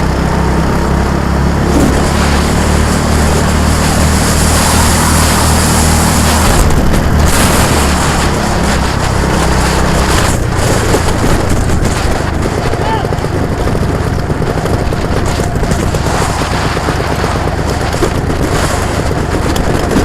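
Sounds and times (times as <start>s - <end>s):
vehicle engine running: 0.0s - 20.0s
wind noise on microphone: 0.0s - 20.0s.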